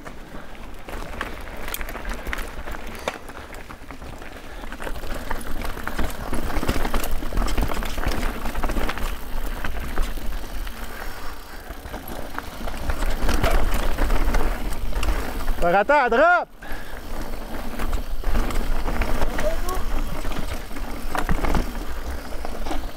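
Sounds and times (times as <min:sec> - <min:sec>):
bike clicking and rattling: 0:00.0 - 0:22.9
bike tyres over dirt and rocks: 0:00.0 - 0:22.9.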